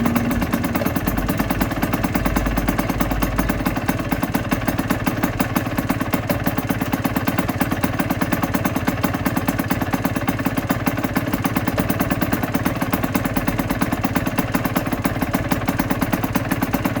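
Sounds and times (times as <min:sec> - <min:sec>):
two-stroke engine idling: 0:00.0 - 0:17.0.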